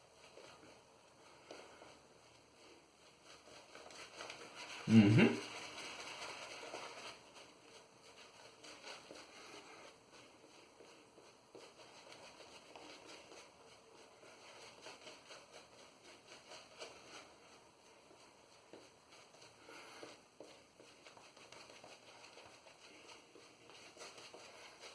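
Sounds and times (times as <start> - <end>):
shaving brush swishing lather: 0.0 - 24.9.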